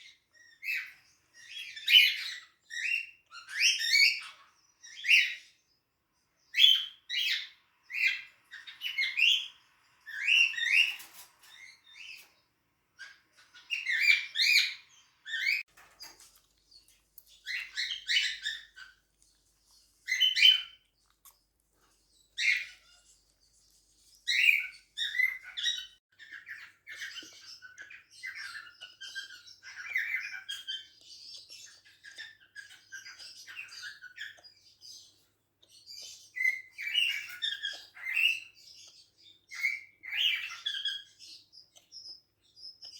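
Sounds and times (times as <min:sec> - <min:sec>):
cockatiels chirping: 0:00.0 - 0:05.6, 0:06.5 - 0:12.4, 0:13.0 - 0:42.9.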